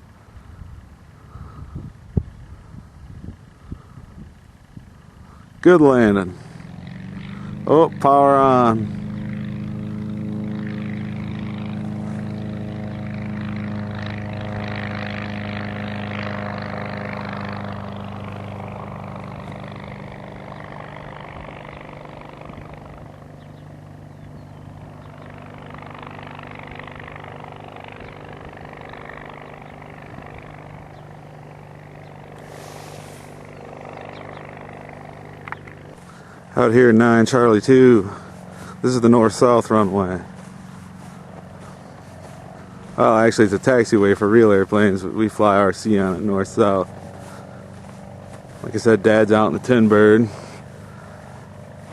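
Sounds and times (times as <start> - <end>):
light aircraft engine and propeller: 0.0 - 51.9.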